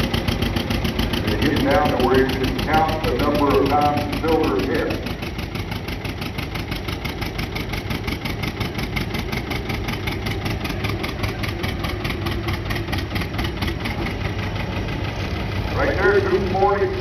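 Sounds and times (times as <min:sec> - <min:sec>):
diesel tractor engine labouring: 0:00.0 - 0:17.0.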